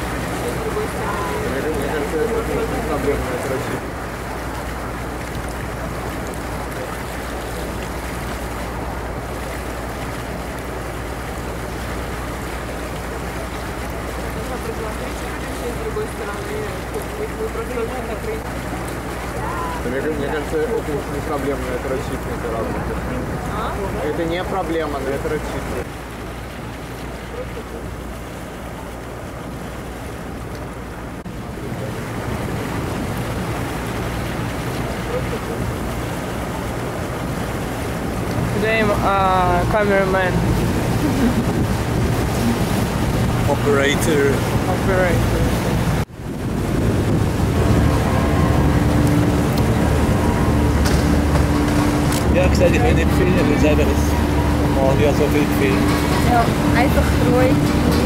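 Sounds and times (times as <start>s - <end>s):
boat engine humming: 0.0s - 58.0s
water rushing along hull: 0.0s - 58.0s
wind buffeting microphone: 0.0s - 58.0s.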